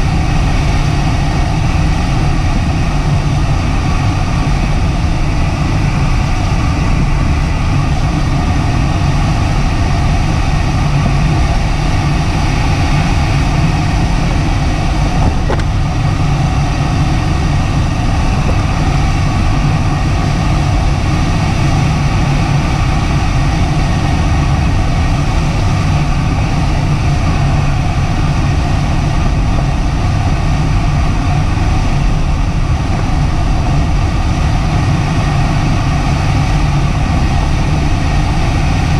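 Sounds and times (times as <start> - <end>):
airflow roar in glider cockpit: 0.0 - 38.9.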